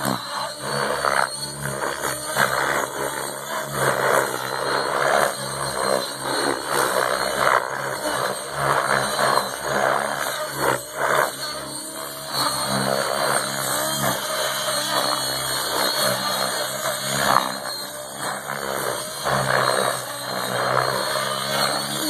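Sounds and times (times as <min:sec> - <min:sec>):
model helicopter motor and rotor: 0:00.0 - 0:22.0.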